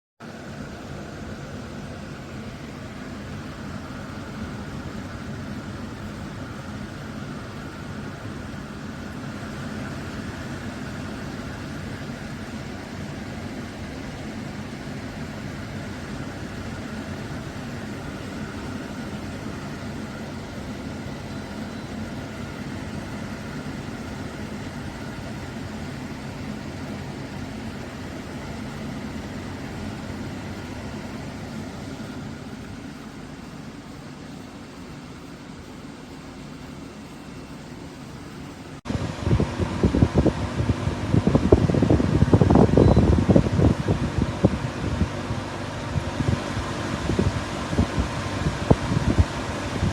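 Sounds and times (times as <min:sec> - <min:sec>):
air conditioner fan rushing: 0:00.2 - 0:49.9.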